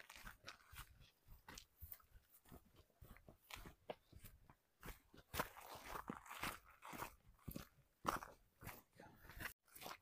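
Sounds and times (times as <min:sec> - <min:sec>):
footsteps on a trail: 0:00.0 - 0:10.0.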